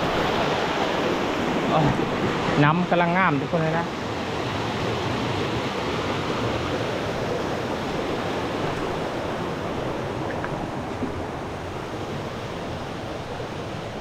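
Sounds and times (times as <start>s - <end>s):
stream water flowing: 0.0s - 14.0s.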